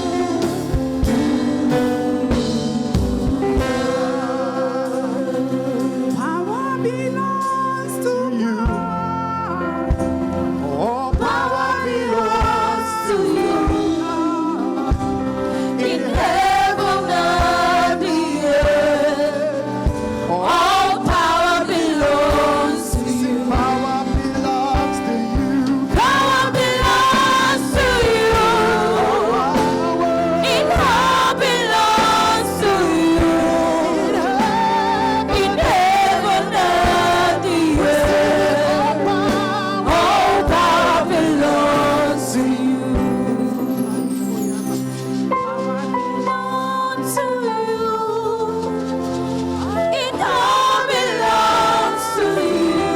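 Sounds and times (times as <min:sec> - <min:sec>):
instrumental backing with beat: 0:00.0 - 0:07.7, 0:09.8 - 0:46.4
voices singing gospel music: 0:00.0 - 0:52.9.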